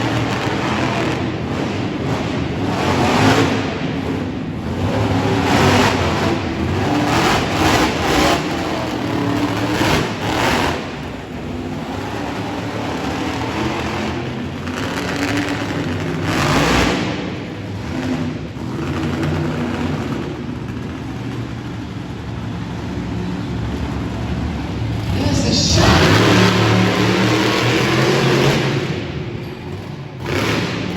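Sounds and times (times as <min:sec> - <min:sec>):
monster truck engine revving: 0:00.0 - 0:30.9.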